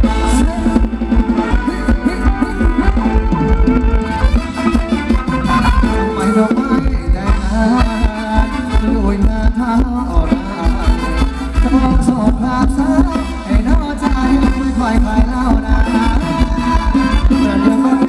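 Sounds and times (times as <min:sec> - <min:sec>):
dance band music: 0:00.0 - 0:18.0.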